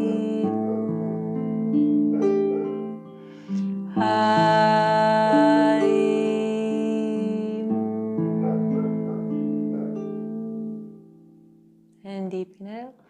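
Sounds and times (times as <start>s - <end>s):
gentle instrumental music: 0.0s - 13.0s.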